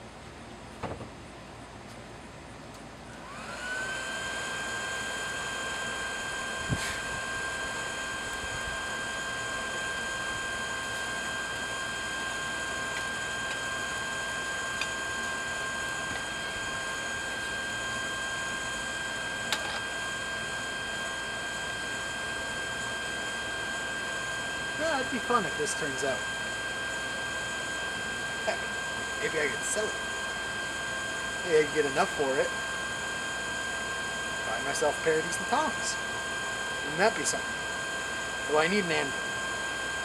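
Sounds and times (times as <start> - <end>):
electric air blower whining: 3.0 - 40.0.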